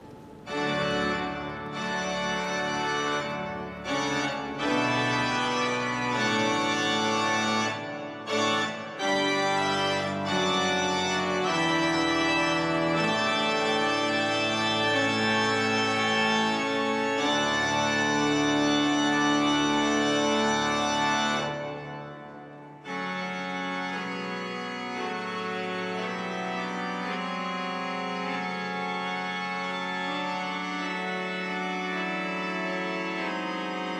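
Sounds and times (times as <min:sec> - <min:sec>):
pipe organ playing chords: 0:00.0 - 0:33.9.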